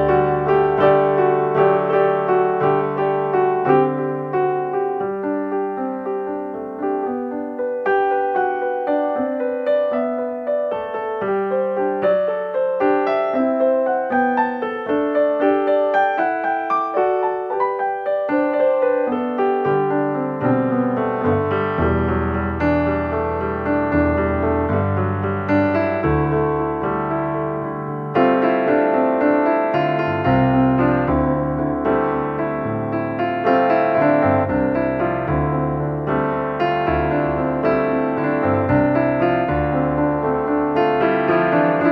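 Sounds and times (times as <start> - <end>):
gentle piano melody: 0.0 - 41.9.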